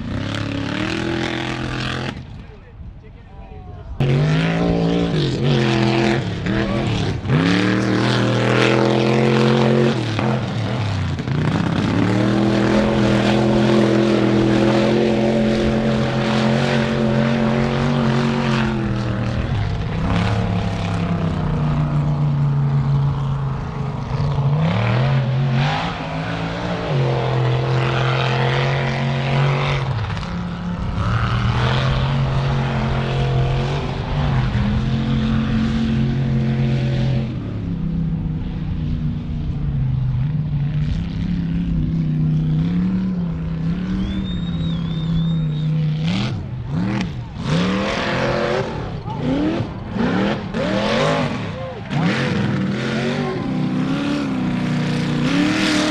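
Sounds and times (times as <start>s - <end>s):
truck engine at high revs: 0.0s - 2.6s, 3.9s - 55.9s.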